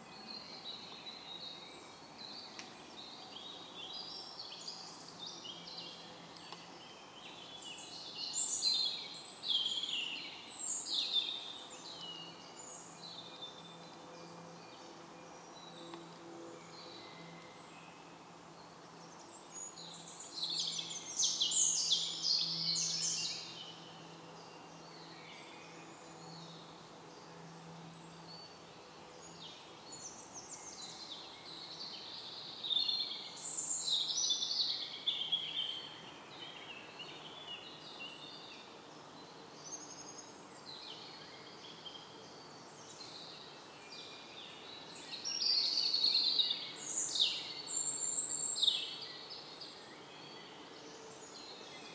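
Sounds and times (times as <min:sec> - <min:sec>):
songbirds singing: 0:00.0 - 0:51.9.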